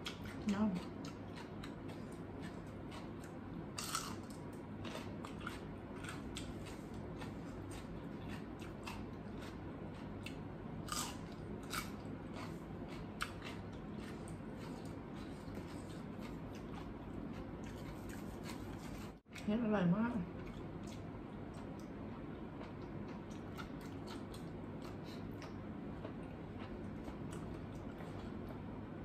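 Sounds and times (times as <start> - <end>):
person chewing crunchy food: 0.0 - 19.4, 20.3 - 28.8.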